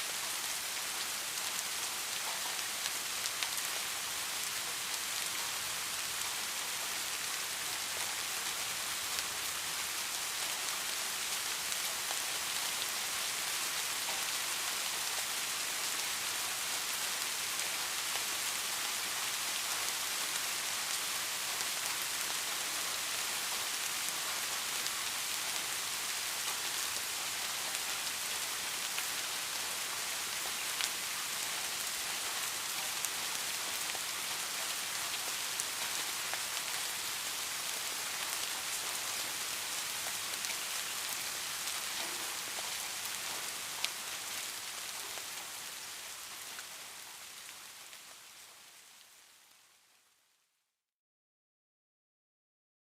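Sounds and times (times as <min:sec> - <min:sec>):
steady rain falling: 0:00.0 - 0:50.4.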